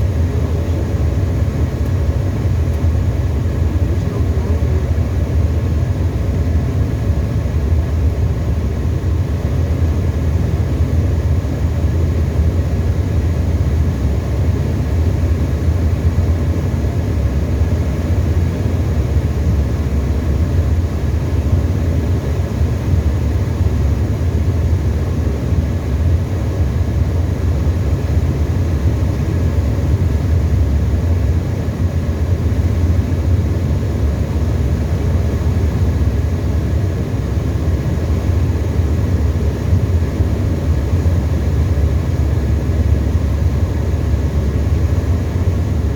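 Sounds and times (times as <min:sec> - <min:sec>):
aeroplane engine drone: 0:00.0 - 0:45.9.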